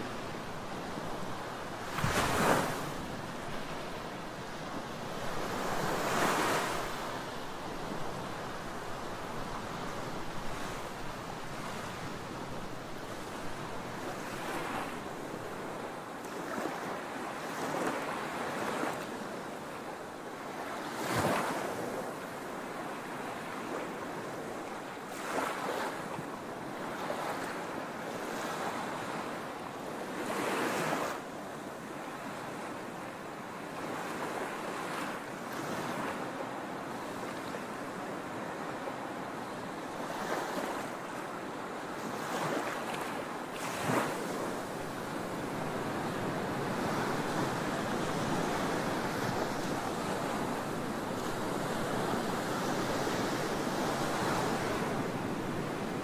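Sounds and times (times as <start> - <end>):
small waves breaking on beach: 0.0 - 56.0.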